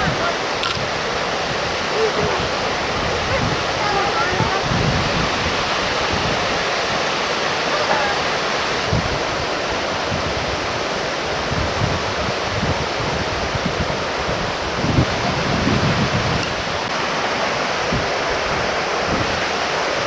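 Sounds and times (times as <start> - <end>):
waterfall rushing: 0.0 - 20.0
wind rumble on microphone: 0.0 - 20.0.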